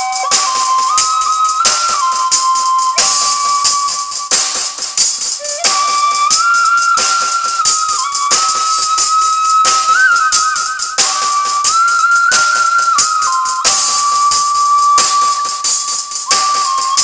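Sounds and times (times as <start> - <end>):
bamboo flute melody: 0.0 - 17.0
shaker rhythm: 0.0 - 17.0
tambourine rhythm: 0.0 - 17.0.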